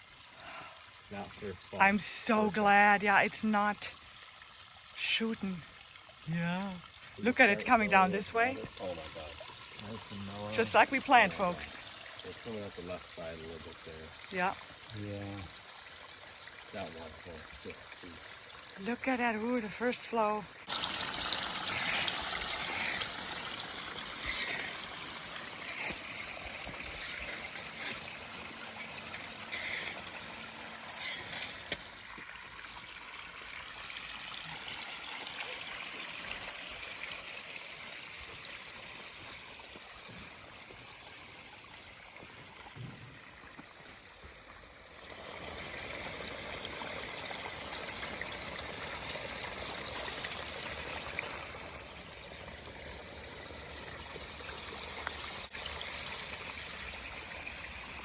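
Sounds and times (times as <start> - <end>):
water splashes: 0.0 - 58.0
water trickling down rocks: 0.0 - 58.0.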